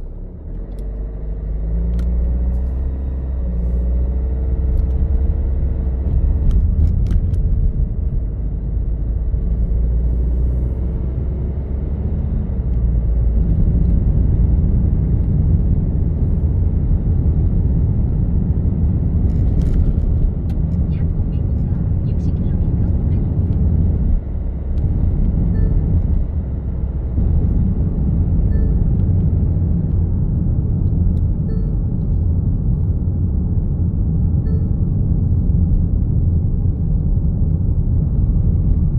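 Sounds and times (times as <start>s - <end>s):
vehicle engine and tyres rumbling: 0.0s - 38.9s.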